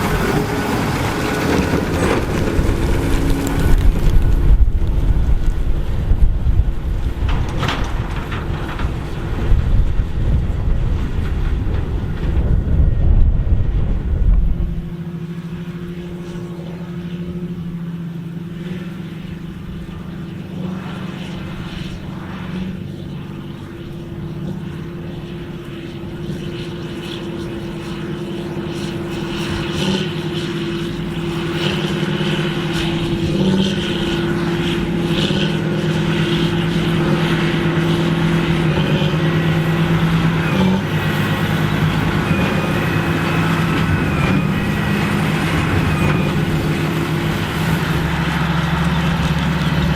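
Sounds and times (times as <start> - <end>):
tractor diesel engine running: 0.0 - 49.9
wind buffeting microphone: 0.0 - 49.9.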